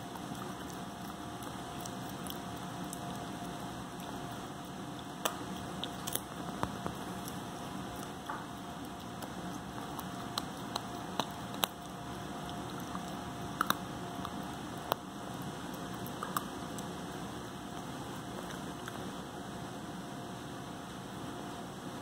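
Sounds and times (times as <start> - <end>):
puppy chewing with crunches: 0.0 - 19.8.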